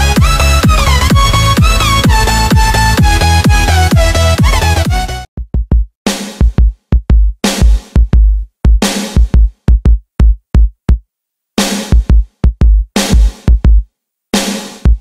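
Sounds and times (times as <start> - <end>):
electronic drum beat: 0.0 - 11.0, 11.6 - 15.0.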